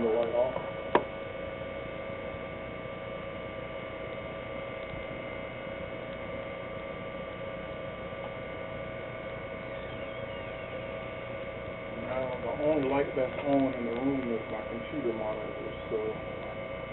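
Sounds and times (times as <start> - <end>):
electrical hum: 0.0 - 16.9
whining tones: 0.0 - 16.9.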